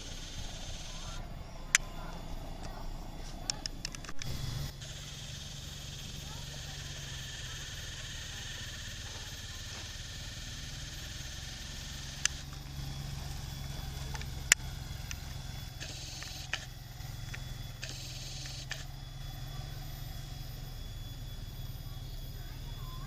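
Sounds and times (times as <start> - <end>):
sharp clicks: 0.0 - 19.0
distant locomotive engine rumble: 0.0 - 23.0.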